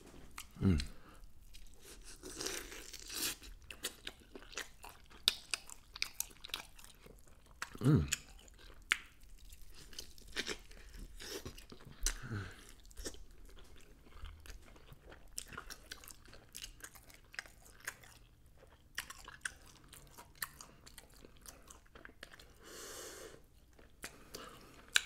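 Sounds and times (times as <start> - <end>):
wet chewing with smacks: 0.2 - 22.6, 23.5 - 25.0.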